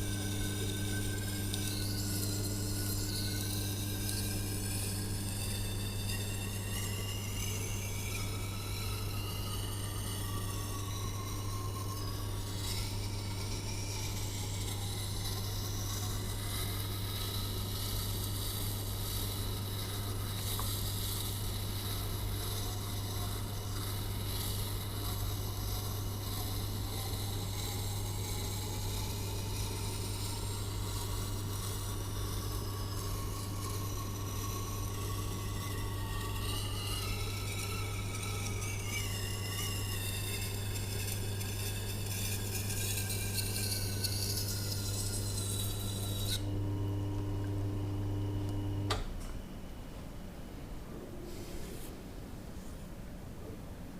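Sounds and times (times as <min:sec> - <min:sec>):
knife scraping on grinding wheel: 0:00.0 - 0:48.9
sharpening machine motor hum: 0:00.0 - 0:49.1.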